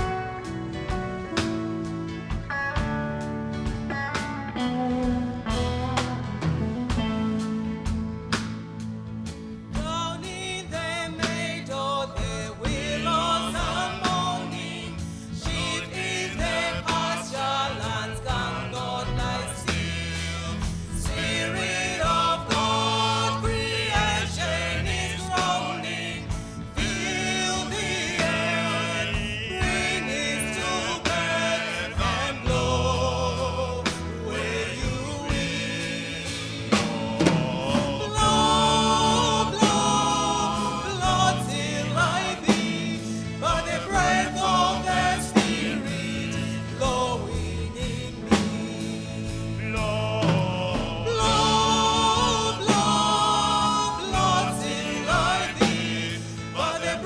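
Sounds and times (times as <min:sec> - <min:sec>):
light drums: 0:00.0 - 0:10.4, 0:18.2 - 0:56.3
bass line: 0:00.0 - 0:57.0
choir singing gospel song: 0:00.0 - 0:57.0.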